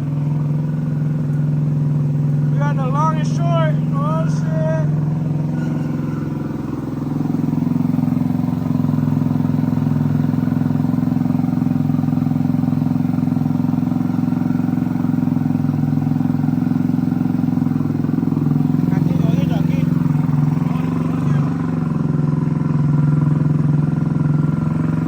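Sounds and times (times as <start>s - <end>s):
moped engine running: 0.0s - 25.0s.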